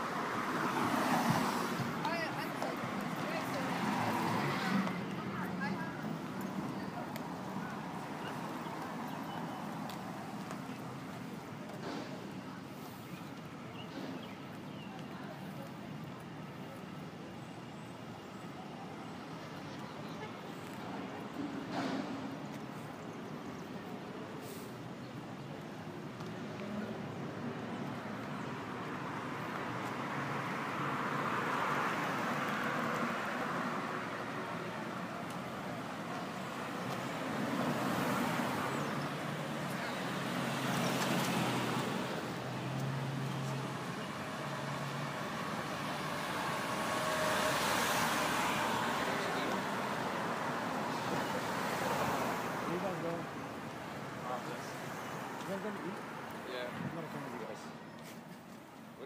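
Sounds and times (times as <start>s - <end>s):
passing cars and buses: 0.0s - 59.0s.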